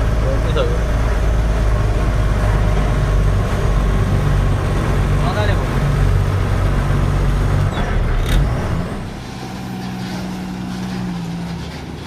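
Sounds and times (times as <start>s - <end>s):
nearby truck engine hum: 0.0s - 12.0s
truck engine hum from cab: 0.0s - 12.0s.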